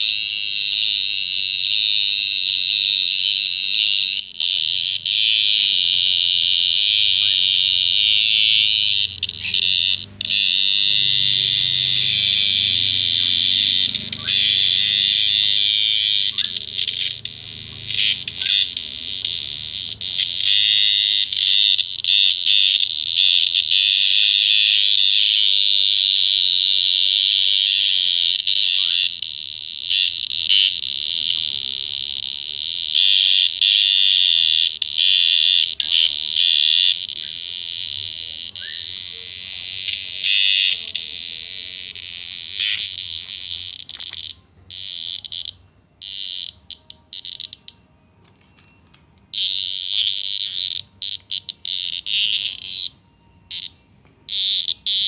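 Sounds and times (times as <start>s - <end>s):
shrill buzzing animal call: 0.0s - 47.8s, 49.3s - 55.0s.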